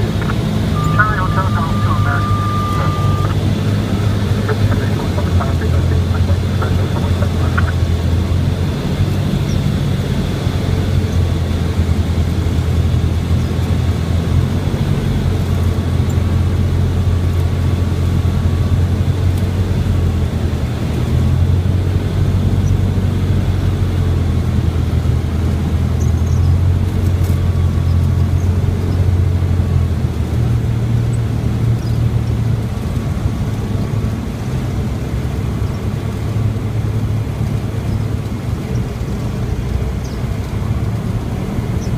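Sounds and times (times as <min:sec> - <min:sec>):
aircraft engine and propeller drone: 0:00.0 - 0:41.9.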